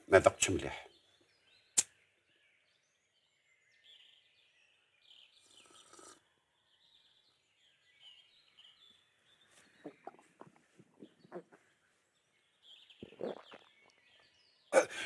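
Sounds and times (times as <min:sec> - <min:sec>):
soft bird chirps: 0:00.1 - 0:15.0.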